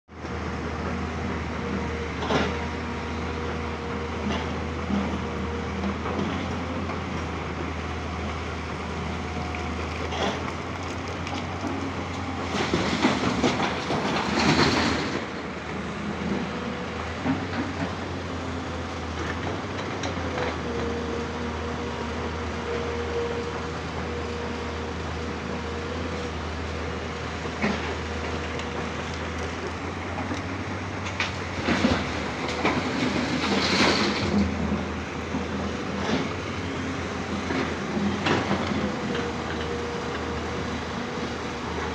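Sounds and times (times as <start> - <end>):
excavator diesel engine running: 0.1 - 41.9.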